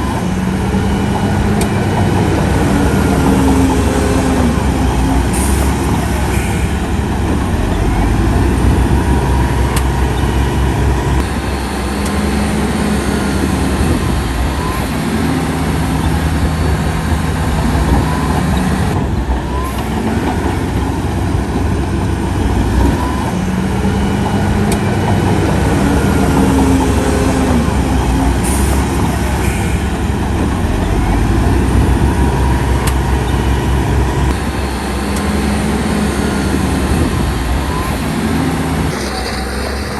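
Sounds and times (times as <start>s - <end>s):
heavy diesel machinery engine: 0.0s - 39.9s.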